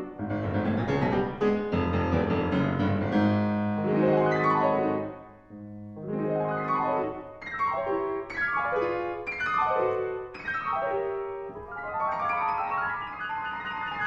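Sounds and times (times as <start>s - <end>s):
solo classical piano: 0.0s - 14.0s.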